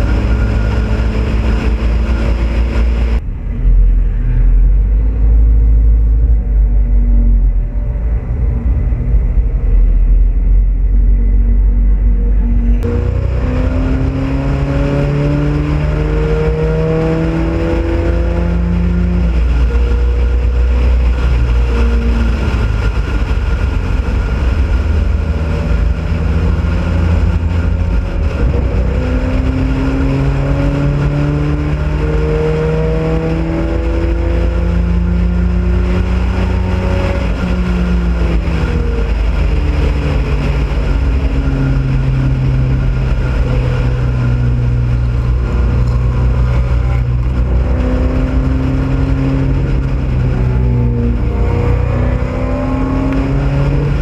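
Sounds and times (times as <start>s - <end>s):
racing car engine: 0.0s - 54.0s
wind rumble on microphone: 0.0s - 54.0s.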